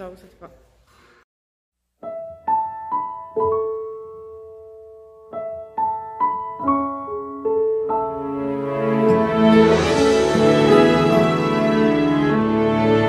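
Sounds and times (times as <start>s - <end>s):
slow piano melody: 2.0s - 13.0s.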